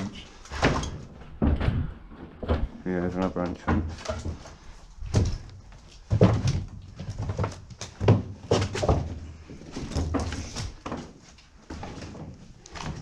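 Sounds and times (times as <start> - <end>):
footsteps and scuffs in tunnel: 0.0 - 13.0.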